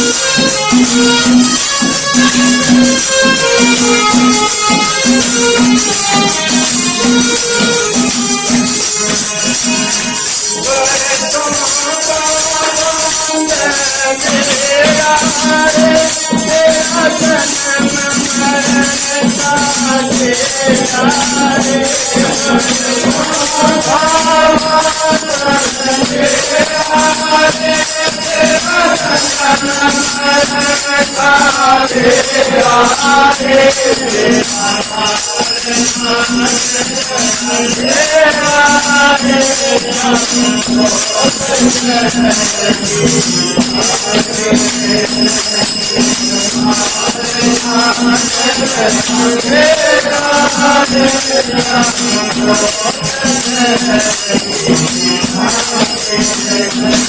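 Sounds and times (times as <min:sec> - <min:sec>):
jingling hand percussion: 0:00.0 - 0:57.0.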